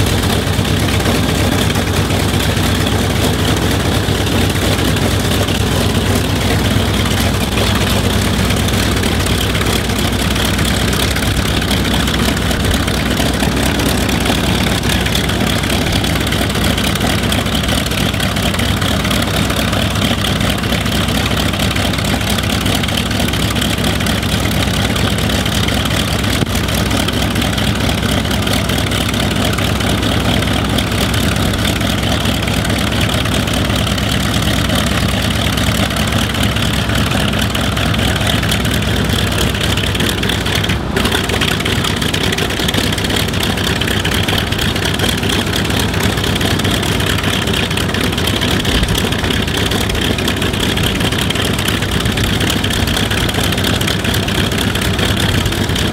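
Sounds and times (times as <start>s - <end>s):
radial aircraft engine idling: 0.0s - 55.9s.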